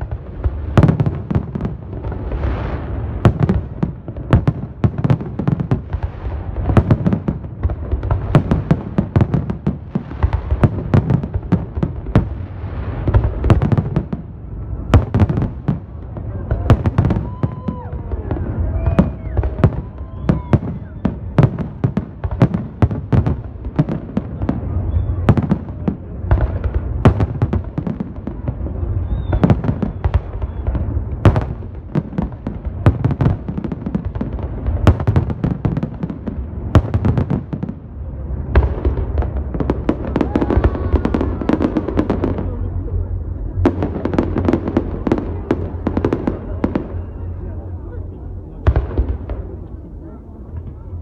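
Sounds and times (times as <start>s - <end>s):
low rumble of booms: 0.0s - 51.0s.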